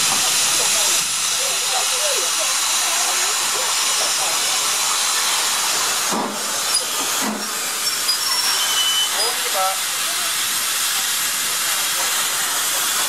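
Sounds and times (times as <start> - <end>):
steam hissing: 0.0 - 13.0
steam locomotive puffs: 0.0 - 13.0.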